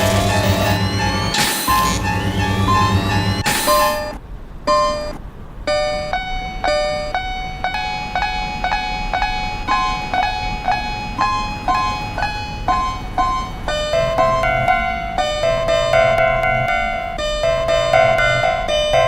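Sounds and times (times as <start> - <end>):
synthesized level crossing bell: 0.0 - 19.0.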